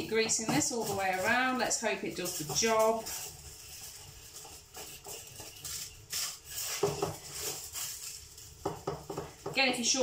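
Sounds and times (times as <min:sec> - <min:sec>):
tin foil crinkling: 0:00.0 - 0:08.9.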